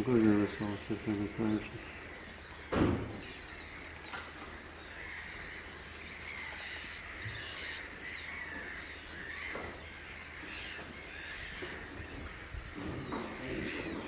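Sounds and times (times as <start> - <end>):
background bird chatter: 0.0 - 14.0.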